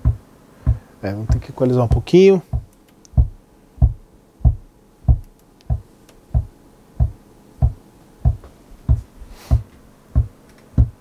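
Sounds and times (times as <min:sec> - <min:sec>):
kick drum thuds: 0:00.0 - 0:11.0.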